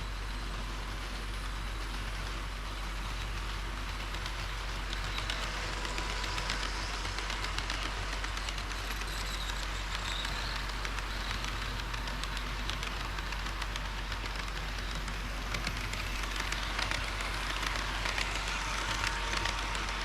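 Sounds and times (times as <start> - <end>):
model train running hiss and hum: 0.0 - 20.0
model train wheels clicking: 0.0 - 20.0.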